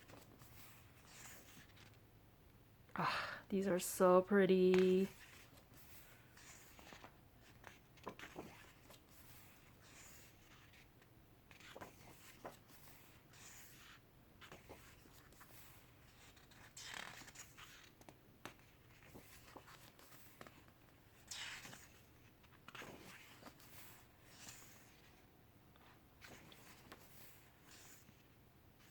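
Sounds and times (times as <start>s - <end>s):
book pages turning: 0.0s - 2.0s, 4.7s - 25.2s, 25.8s - 28.9s.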